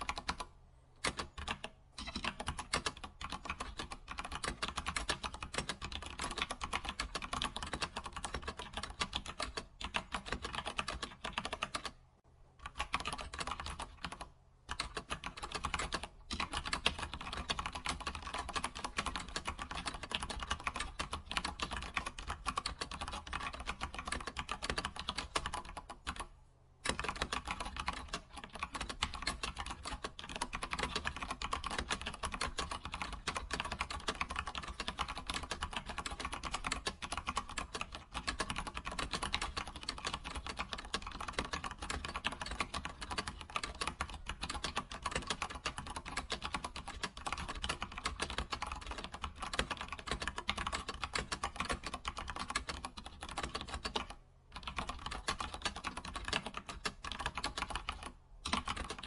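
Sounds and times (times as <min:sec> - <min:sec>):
fast typing on keyboard: 0:00.0 - 0:12.0, 0:12.6 - 0:59.0.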